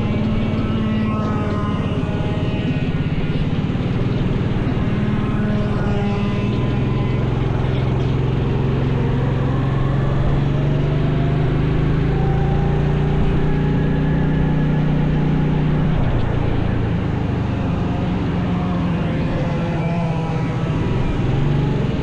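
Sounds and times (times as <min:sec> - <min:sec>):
racing engine running hard: 0:00.0 - 0:22.0.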